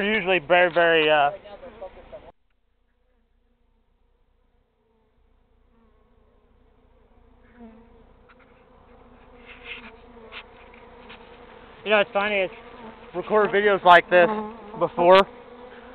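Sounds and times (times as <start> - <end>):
bees buzzing: 0.0 - 15.9.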